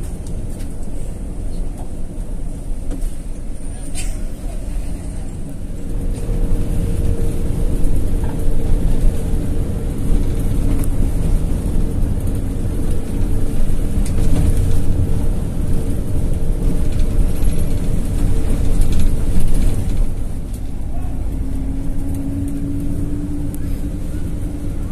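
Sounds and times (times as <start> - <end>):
bus engine droning: 0.0 - 24.9
road and tyre noise: 0.0 - 24.9.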